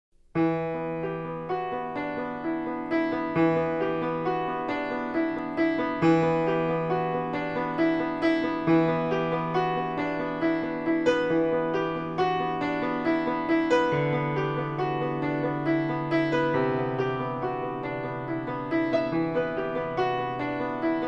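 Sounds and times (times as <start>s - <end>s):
gentle piano music: 0.3s - 21.0s.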